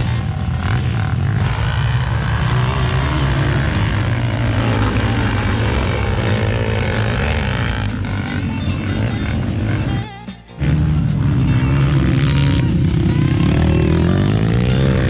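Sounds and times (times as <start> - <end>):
dirt bike engines racing: 0.0 - 15.0.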